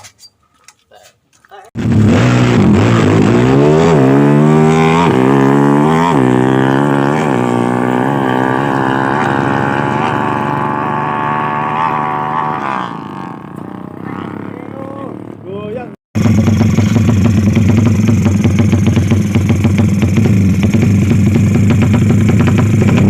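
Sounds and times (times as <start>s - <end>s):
motorcycle engine revving: 1.8s - 23.0s.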